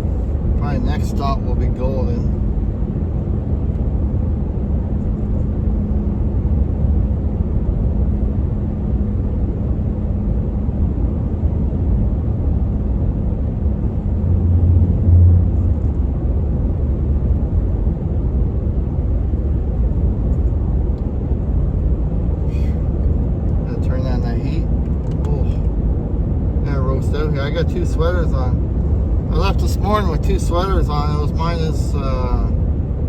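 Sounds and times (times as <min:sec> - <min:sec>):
truck engine and road rumble: 0:00.0 - 0:33.0.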